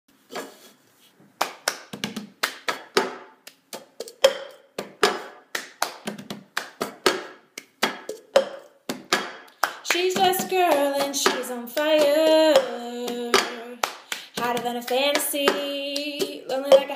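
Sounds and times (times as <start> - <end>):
hand percussion claps and knocks: 1.4 - 16.9.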